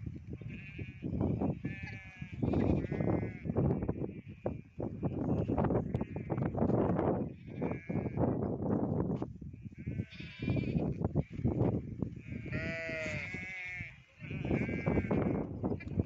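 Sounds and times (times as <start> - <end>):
goats and sheep bleating: 0.2 - 8.5, 9.6 - 16.0.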